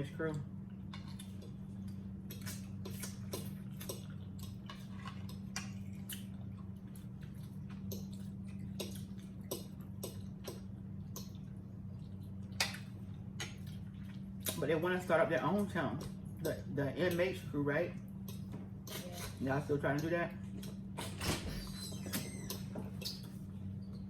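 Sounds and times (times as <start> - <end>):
steady low hum: 0.0 - 24.0
people eating chicken by hand: 0.2 - 24.0.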